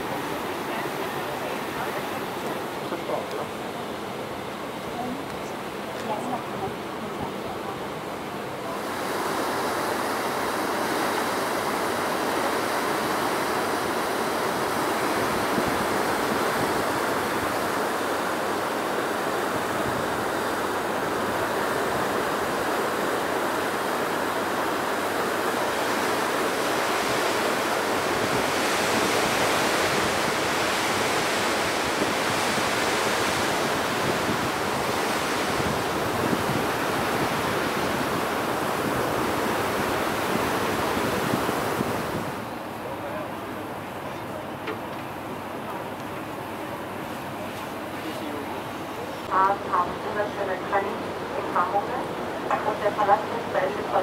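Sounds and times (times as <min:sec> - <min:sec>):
passing water: 0:00.0 - 0:54.0.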